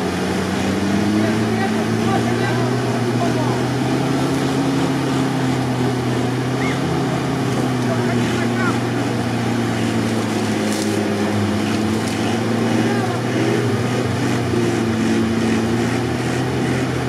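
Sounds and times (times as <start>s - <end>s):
engine running hard under load: 0.0s - 17.0s.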